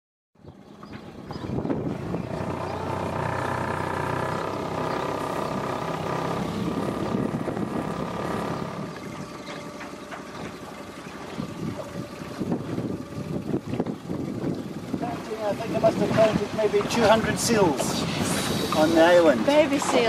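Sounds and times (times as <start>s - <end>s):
boat engine running: 0.4s - 20.0s.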